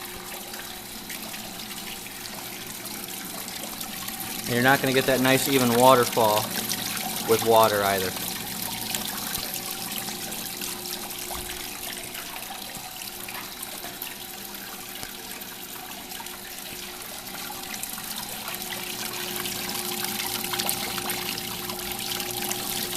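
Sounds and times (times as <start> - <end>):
faint steady hum: 0.0 - 22.9
water pouring and splashing: 0.0 - 22.9.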